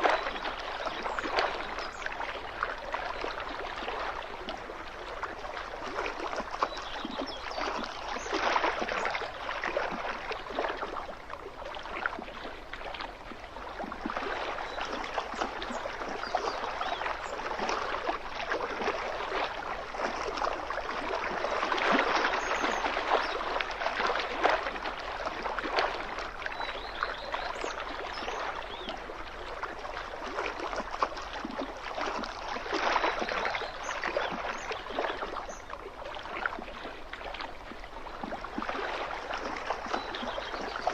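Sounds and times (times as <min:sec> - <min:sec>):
small waves lapping on shore: 0:00.0 - 0:40.9.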